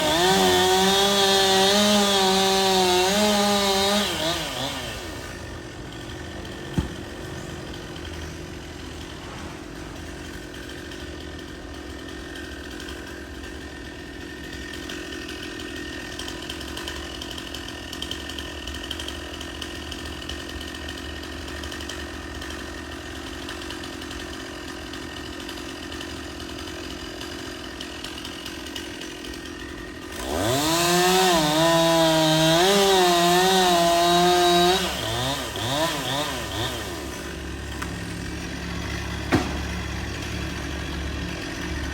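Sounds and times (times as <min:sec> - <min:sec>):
chainsaw idling and revving: 0:00.0 - 0:41.9.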